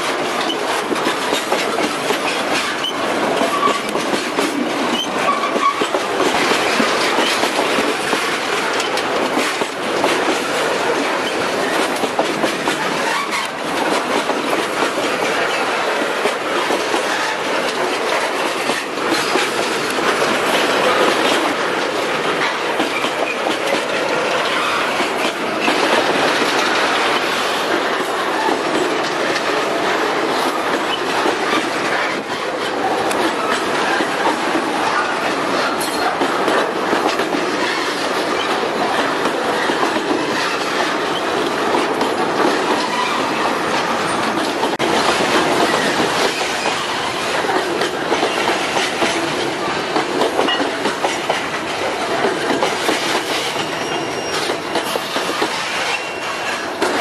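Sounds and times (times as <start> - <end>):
rolling rumble of train cars: 0.0 - 57.0
wheels clattering over rail joints: 0.0 - 57.0.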